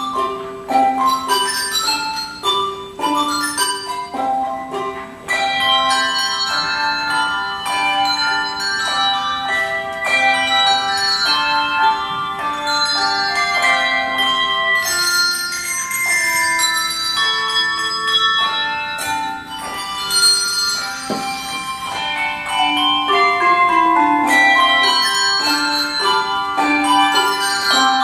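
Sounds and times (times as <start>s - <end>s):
handbell choir ringing a tune: 0.0s - 28.0s.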